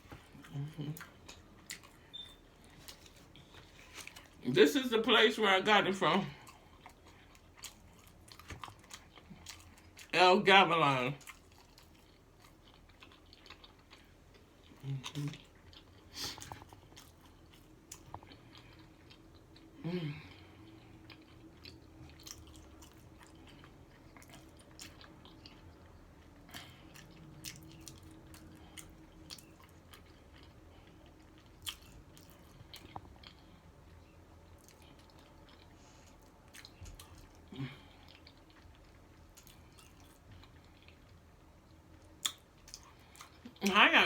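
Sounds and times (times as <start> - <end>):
chewing with mouth clicks: 0.0 - 4.4, 6.2 - 10.2, 11.2 - 43.8.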